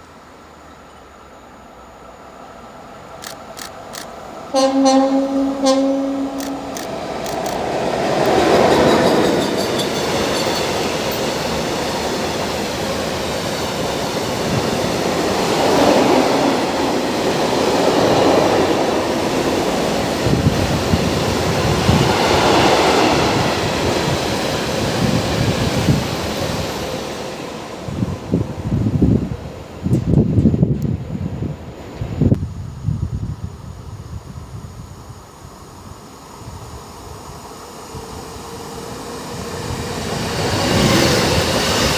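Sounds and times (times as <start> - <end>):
train wheels rumbling on rails: 3.1 - 32.3, 36.6 - 41.9.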